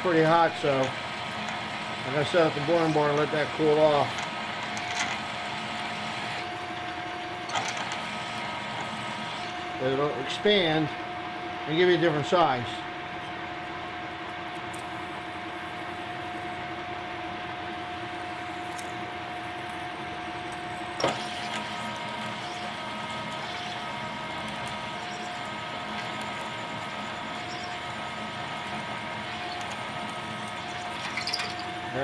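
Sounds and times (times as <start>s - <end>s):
lathe humming and whining: 0.0s - 32.0s
higher wavering whine: 6.0s - 32.0s.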